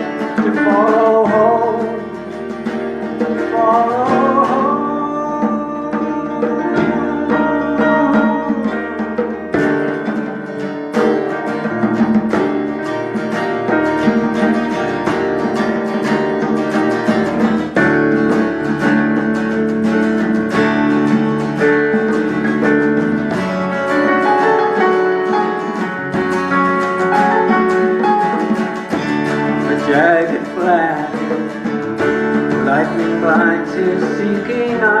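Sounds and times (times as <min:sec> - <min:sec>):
plucked acoustic guitar music: 0:00.0 - 0:35.0.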